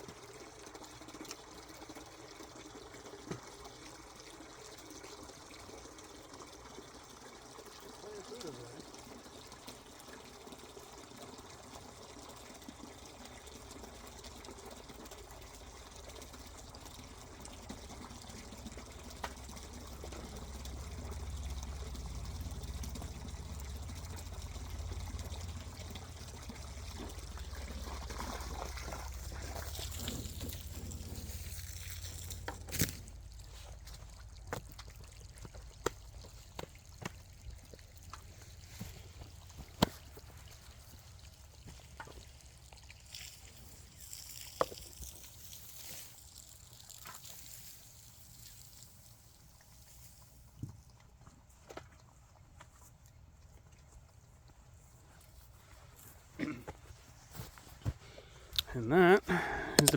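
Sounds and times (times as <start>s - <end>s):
water pouring and trickling: 0.0s - 59.9s.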